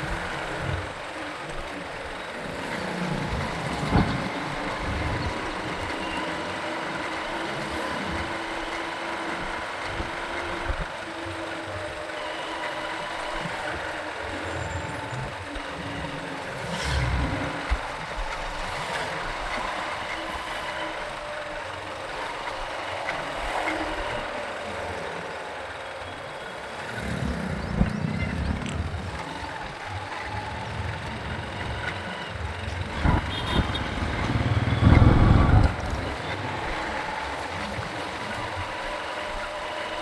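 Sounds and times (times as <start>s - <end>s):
low engine surges: 0.0s - 40.0s
traffic rush from motorcycle: 0.0s - 40.0s.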